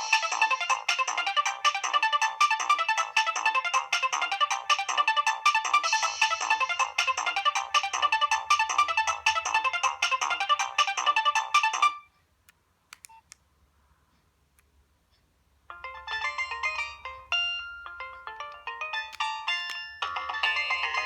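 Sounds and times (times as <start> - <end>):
phone ringtone melody: 0.0 - 12.1, 15.7 - 21.0.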